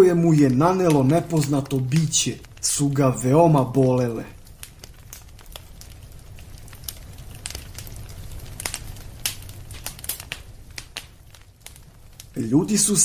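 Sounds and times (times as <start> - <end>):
campfire crackling and popping: 0.0 - 13.0
low rumble of flames: 0.0 - 13.0.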